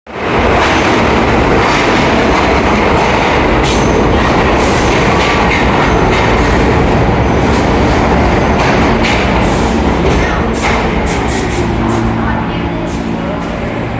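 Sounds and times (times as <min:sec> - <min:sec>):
subway train wheels rumbling: 0:00.1 - 0:13.9.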